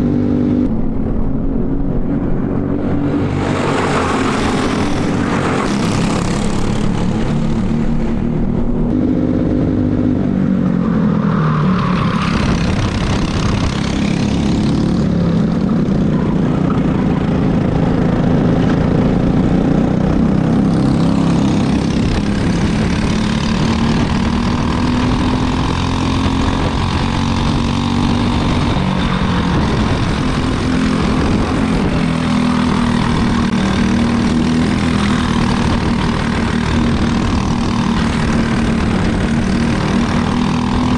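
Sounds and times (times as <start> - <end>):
kart engines racing: 0.0 - 40.9
wind and tyre noise: 0.0 - 40.9.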